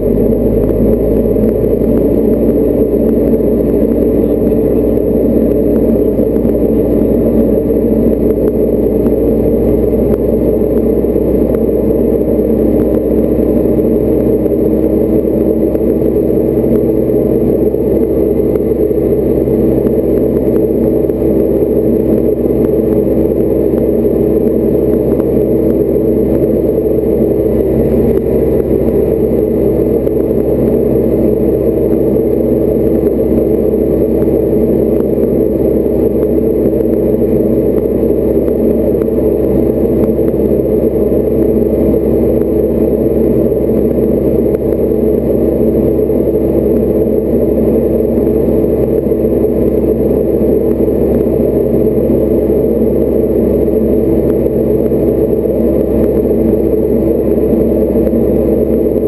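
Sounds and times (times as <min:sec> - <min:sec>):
aircraft engine and propeller drone: 0:00.0 - 0:59.0.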